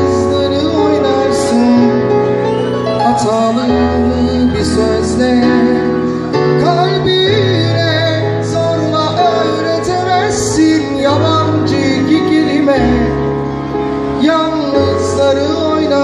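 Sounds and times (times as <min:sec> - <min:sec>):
slow pop song on electronic keyboard: 0:00.0 - 0:16.0.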